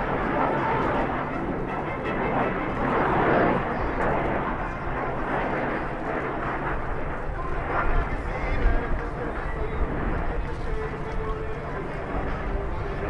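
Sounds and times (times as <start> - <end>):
jet roar flying by: 0.0 - 13.0.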